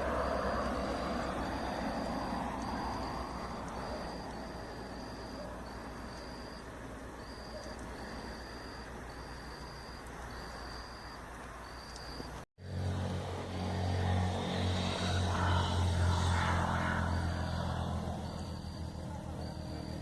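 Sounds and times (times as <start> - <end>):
low engine drone: 0.0 - 8.9, 12.6 - 20.0
cricket trilling: 0.0 - 12.4, 13.0 - 20.0.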